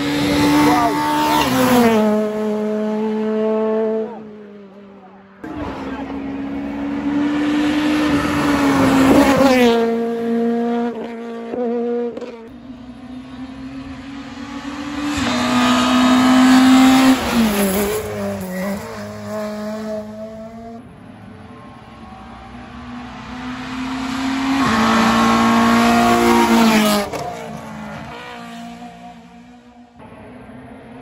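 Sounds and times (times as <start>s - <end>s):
rally cars passing at speed: 0.0s - 31.0s.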